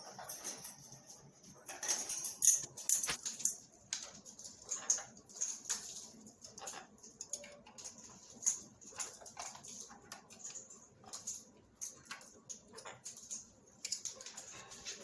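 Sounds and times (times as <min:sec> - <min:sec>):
parrot beak clicking and crunching: 0:01.6 - 0:15.0.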